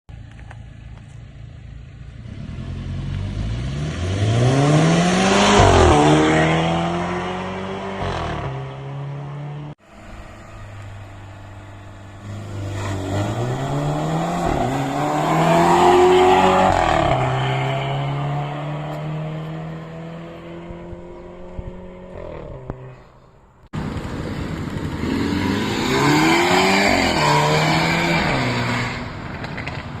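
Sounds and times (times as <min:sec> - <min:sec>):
car engine accelerating: 0:01.8 - 0:23.1, 0:23.7 - 0:29.3.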